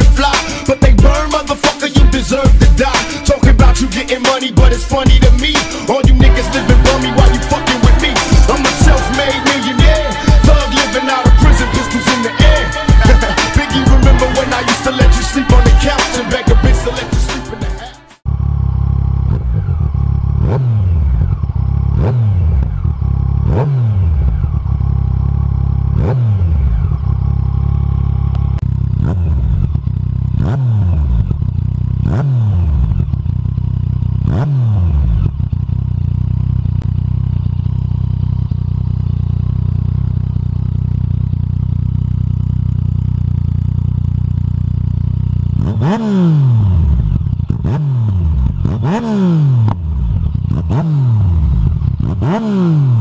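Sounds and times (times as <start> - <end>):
motorcycle engine idling and revving: 0.0 - 53.0.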